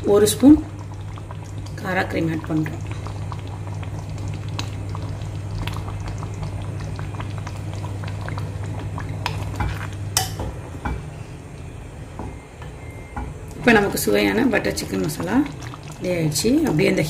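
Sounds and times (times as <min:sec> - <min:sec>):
gravy bubbling in a pan: 0:00.0 - 0:10.3, 0:13.4 - 0:17.0
steady low hum: 0:00.0 - 0:17.0.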